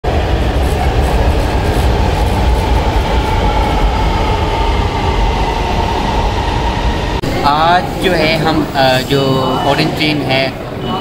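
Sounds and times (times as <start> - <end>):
electric train rumbling: 0.0 - 11.0
faint train whine: 0.1 - 11.0.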